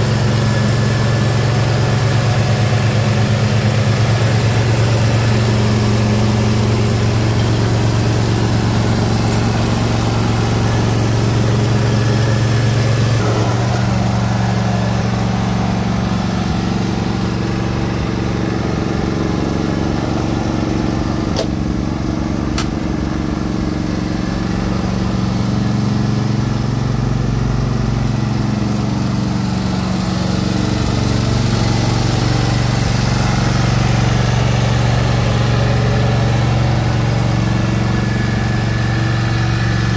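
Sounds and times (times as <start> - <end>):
ride-on mower engine running: 0.0 - 39.9.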